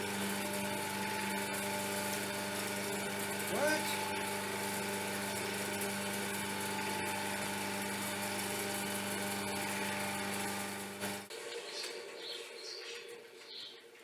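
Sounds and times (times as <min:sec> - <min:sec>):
drum sander running: 0:00.0 - 0:12.2.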